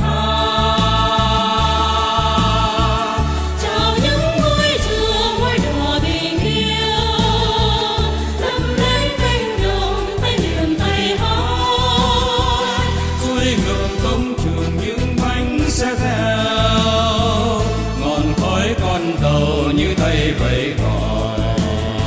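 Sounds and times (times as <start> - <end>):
song with sung vocals: 0.0 - 22.0.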